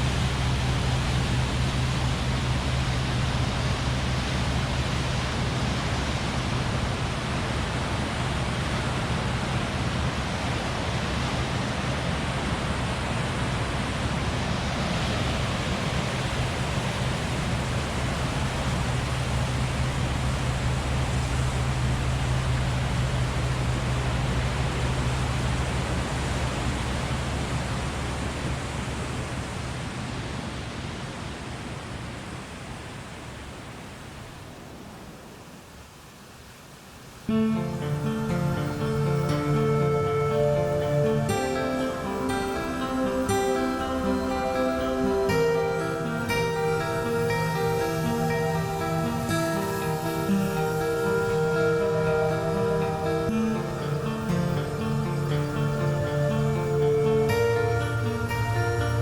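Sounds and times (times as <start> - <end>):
low steady hum: 0.0 - 35.2, 37.3 - 59.0
river rushing: 0.0 - 59.0.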